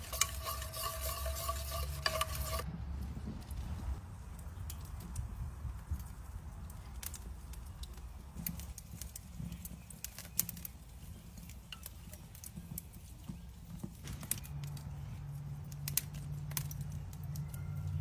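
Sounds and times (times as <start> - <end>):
grill clicks and pops: 0.0 - 2.7, 4.4 - 18.0.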